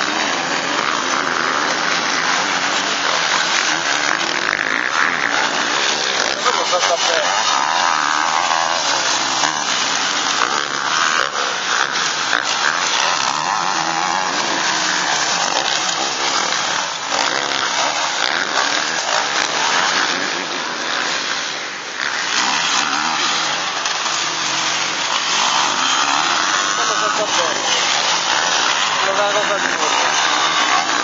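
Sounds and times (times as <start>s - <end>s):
motocross engines revving: 0.0s - 31.0s.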